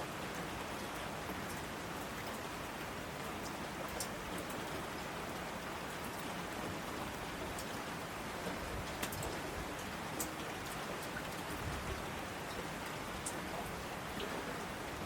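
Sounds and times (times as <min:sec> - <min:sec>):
steady rain falling: 0:00.0 - 0:15.0
rain drop ticks: 0:00.3 - 0:02.4, 0:03.4 - 0:07.8, 0:08.7 - 0:15.0.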